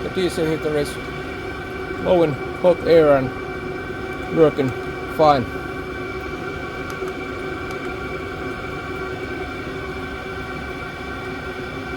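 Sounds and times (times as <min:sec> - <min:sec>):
air heater humming: 0:00.0 - 0:11.9.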